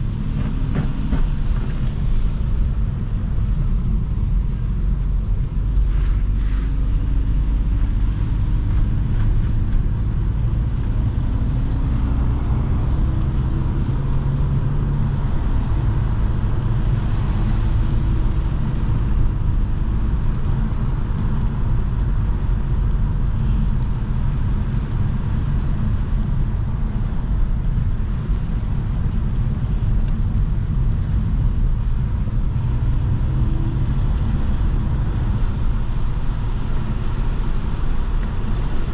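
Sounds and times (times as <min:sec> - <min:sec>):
car engine and exhaust: 0:00.0 - 0:38.9
tyre and road noise: 0:00.0 - 0:38.9.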